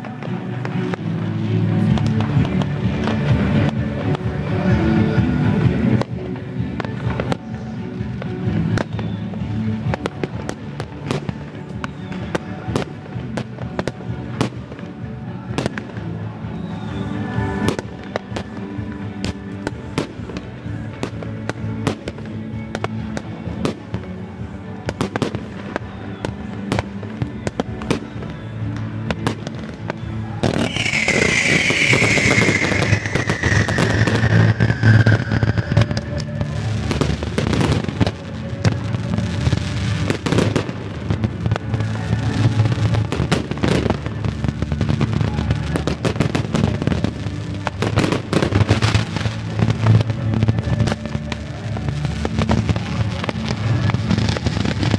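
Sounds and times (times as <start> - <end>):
fireworks bursts and crackles: 0.0 - 54.9
music playing: 0.0 - 54.9.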